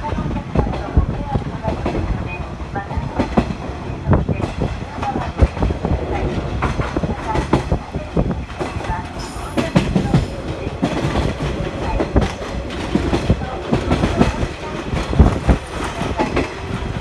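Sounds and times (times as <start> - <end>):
train car low rumble: 0.0 - 17.0.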